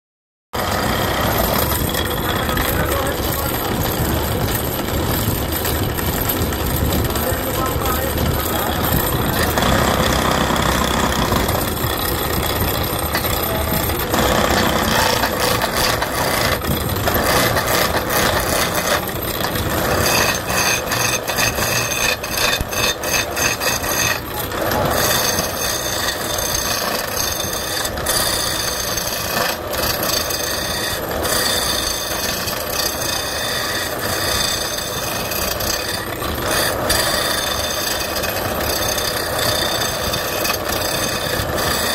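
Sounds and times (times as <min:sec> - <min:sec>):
knocks of lathe cutting: 0:00.6 - 0:41.9
wood lathe tool scraping wood: 0:00.6 - 0:41.9.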